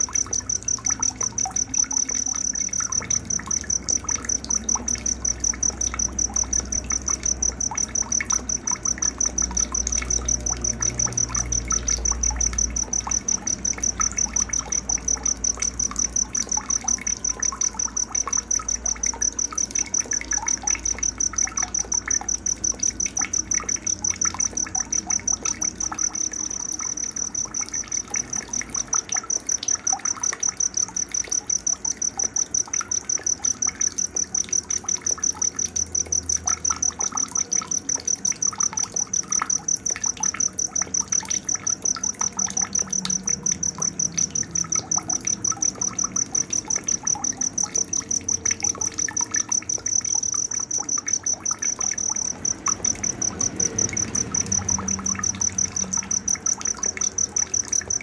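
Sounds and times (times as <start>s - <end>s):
insect high-pitched trill: 0.0s - 58.0s.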